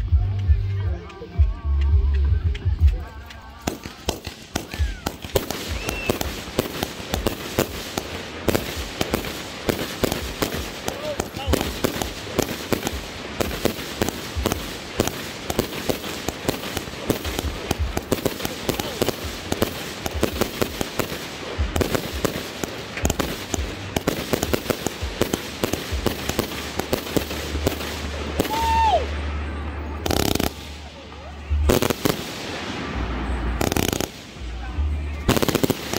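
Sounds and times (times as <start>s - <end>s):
fireworks firing rapidly: 2.9s - 35.9s.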